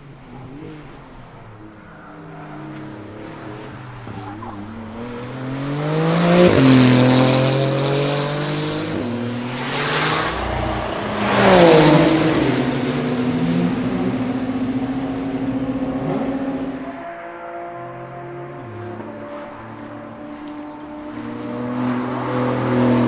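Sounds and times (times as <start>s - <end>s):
sports car accelerating past: 0.3s - 23.0s.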